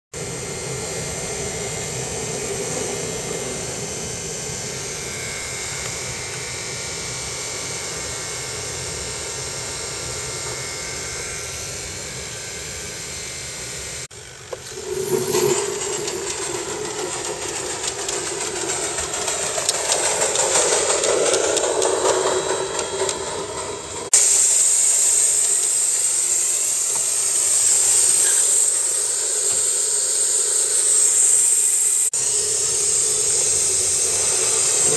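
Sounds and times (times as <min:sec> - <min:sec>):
model steam locomotive hissing: 0:00.2 - 0:34.9.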